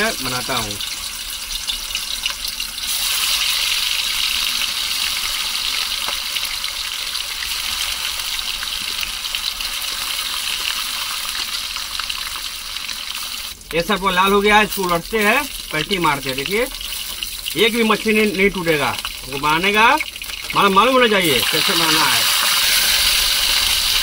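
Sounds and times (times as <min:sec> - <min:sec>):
fish deep-frying in oil: 0:00.0 - 0:24.0.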